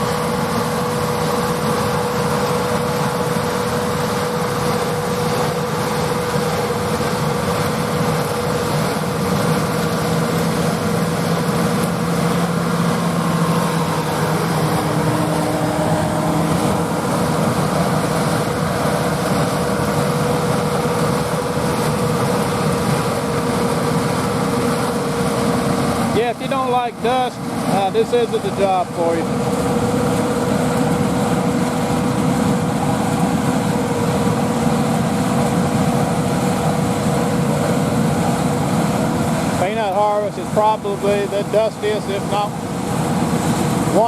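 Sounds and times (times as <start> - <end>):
tractor and machinery drone: 0.0 - 44.0.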